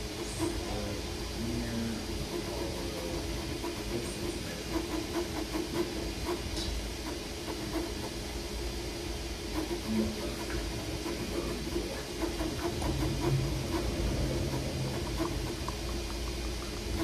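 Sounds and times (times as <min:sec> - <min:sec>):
printer fan hiss: 0:00.0 - 0:17.0.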